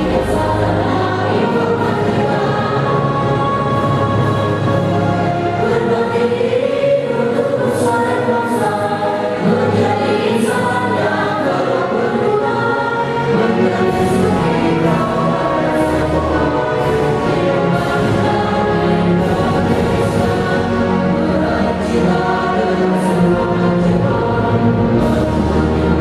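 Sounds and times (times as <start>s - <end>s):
choir singing: 0.0s - 26.0s
instrumental accompaniment: 0.0s - 26.0s.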